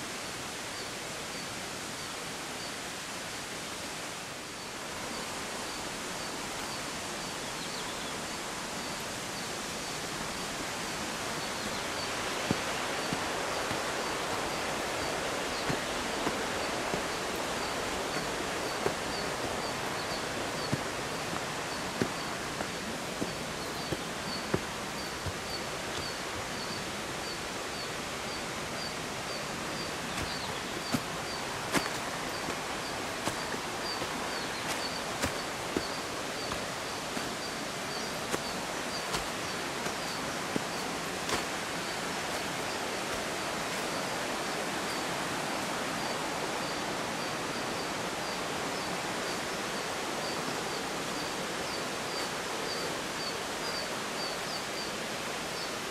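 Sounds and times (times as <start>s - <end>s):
steady outdoor rushing noise: 8.5s - 55.9s.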